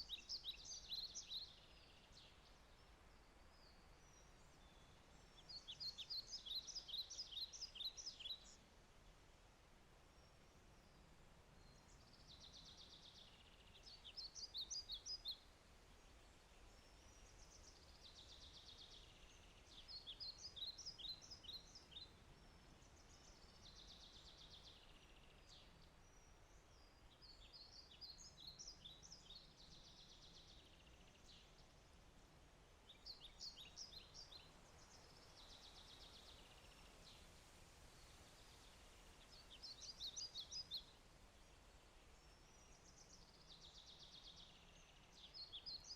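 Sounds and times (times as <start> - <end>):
faint steady hiss: 0.0 - 45.9
songbird singing: 0.0 - 45.9.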